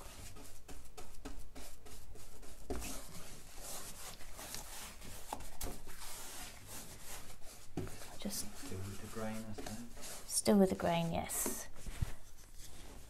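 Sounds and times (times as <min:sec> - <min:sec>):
paintbrush scratchy strokes: 0:00.0 - 0:13.0.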